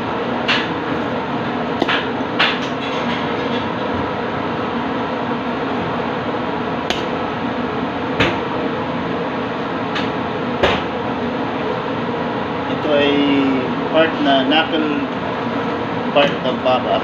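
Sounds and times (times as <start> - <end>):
ventilation fan noise: 0.0 - 17.0.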